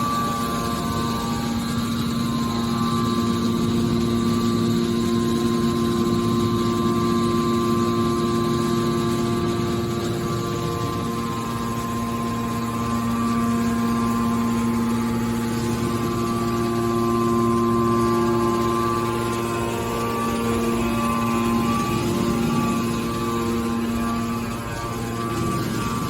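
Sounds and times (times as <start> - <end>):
hydraulic baler humming: 0.0 - 26.0.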